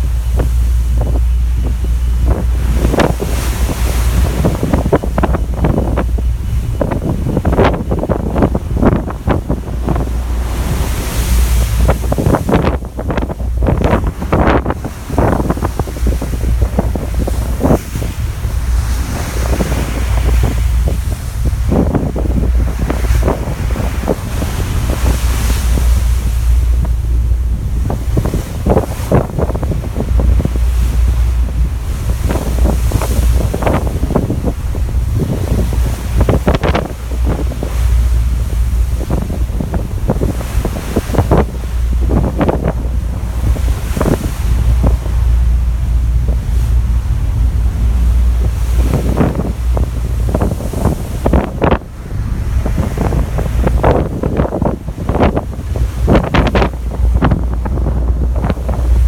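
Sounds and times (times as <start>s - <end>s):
rush of sea water: 0.0s - 59.0s
wind buffeting microphone: 0.0s - 59.0s.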